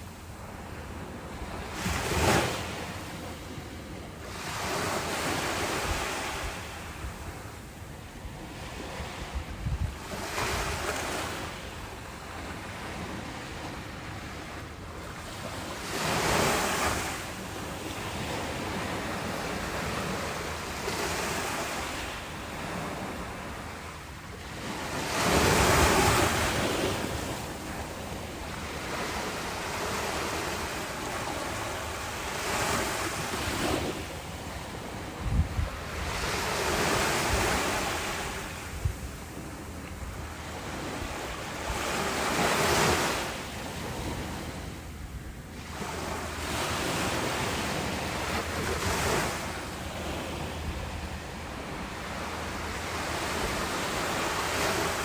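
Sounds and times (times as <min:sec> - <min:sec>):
ocean waves washing in: 0:10.0 - 0:55.0.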